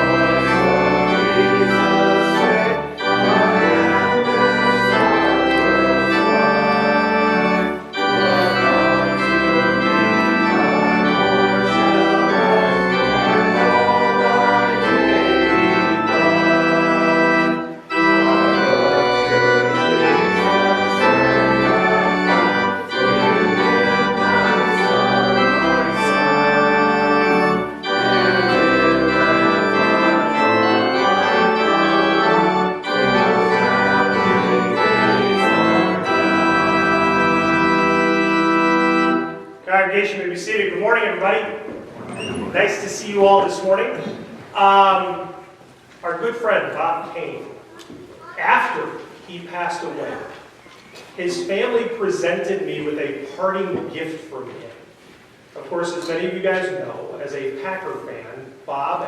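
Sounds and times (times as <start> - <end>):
church organ playing a hymn: 0.0 - 50.4, 51.2 - 54.8, 55.6 - 59.0.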